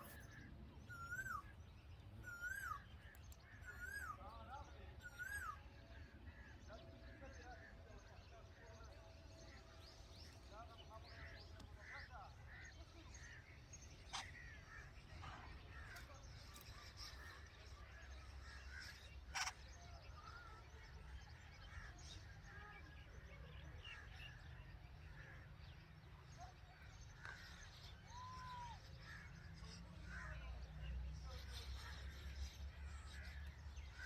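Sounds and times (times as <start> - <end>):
bird chirps and calls: 0.0 - 34.0.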